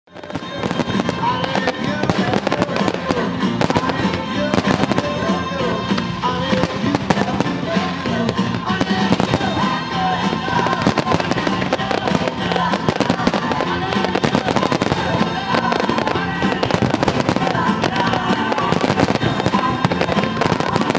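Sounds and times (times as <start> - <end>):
fireworks bangs and crackling: 0.1 - 20.9
music playing: 0.1 - 20.9.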